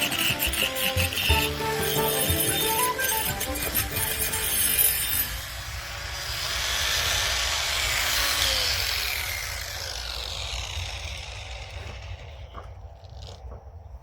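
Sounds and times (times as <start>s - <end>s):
angle grinder grinding wood: 0.0s - 13.5s.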